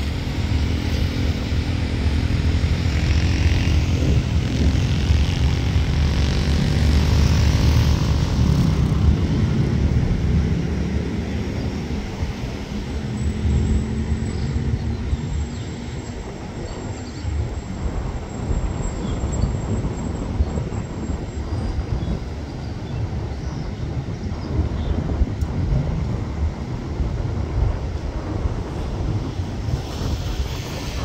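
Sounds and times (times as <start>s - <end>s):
train wheels and engine rumbling: 0.0s - 31.0s.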